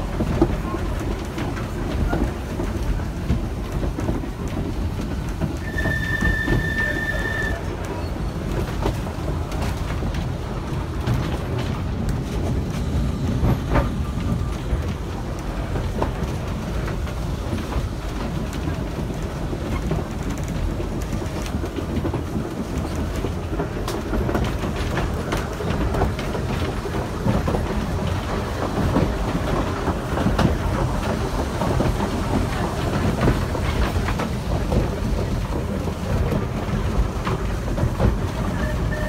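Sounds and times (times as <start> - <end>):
tram rumbling along track: 0.0 - 39.0
wheels clattering over rails: 0.0 - 39.0.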